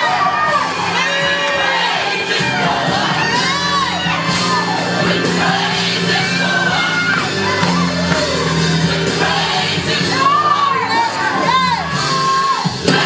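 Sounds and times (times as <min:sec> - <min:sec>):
voices shouting and whooping: 0:00.0 - 0:05.2, 0:06.2 - 0:08.8, 0:10.0 - 0:12.9
choir singing gospel song: 0:00.0 - 0:13.0
low keyboard and bass notes: 0:00.0 - 0:13.0.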